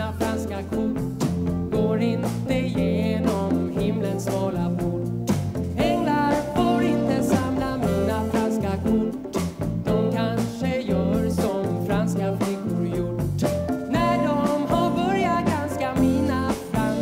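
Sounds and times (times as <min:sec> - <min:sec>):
instrumental accompaniment: 0:00.0 - 0:17.0
man singing pop song: 0:00.0 - 0:17.0.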